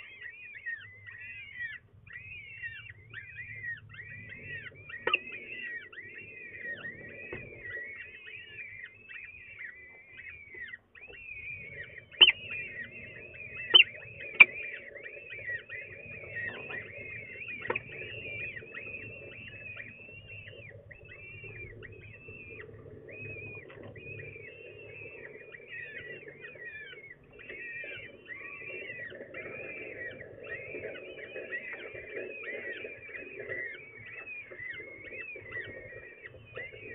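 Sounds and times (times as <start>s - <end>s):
falcon chicks cheeping: 0.0s - 36.9s.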